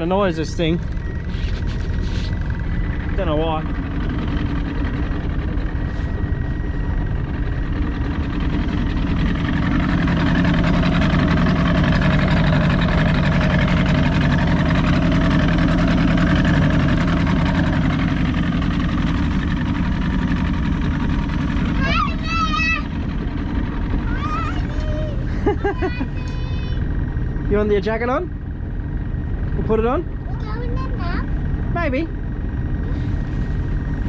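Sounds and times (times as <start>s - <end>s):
outboard motor idling: 0.0s - 34.0s.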